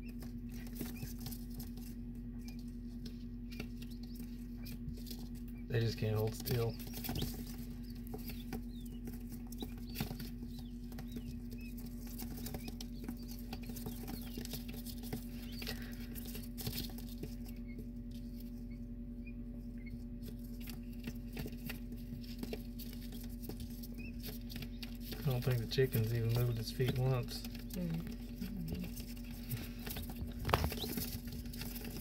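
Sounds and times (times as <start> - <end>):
chicks scratching and pecking on paper: 0.0 - 32.0
faint high chick peeps: 0.0 - 32.0.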